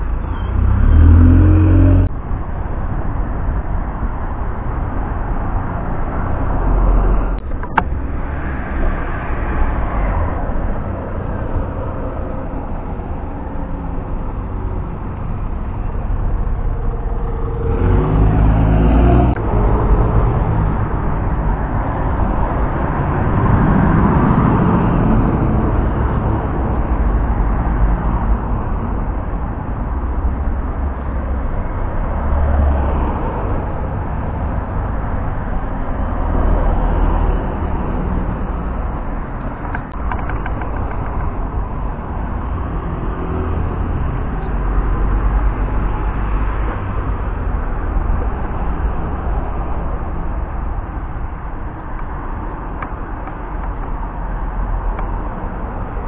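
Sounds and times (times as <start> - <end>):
buses and cars driving past: 0.0 - 56.0.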